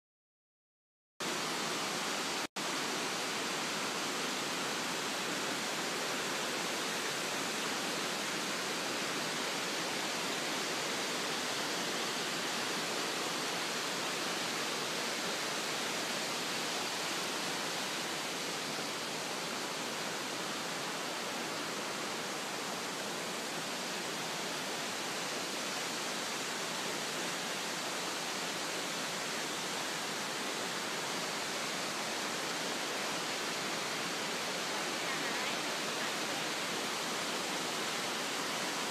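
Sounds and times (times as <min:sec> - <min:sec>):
distant waterfall rushing: 0:01.2 - 0:38.9.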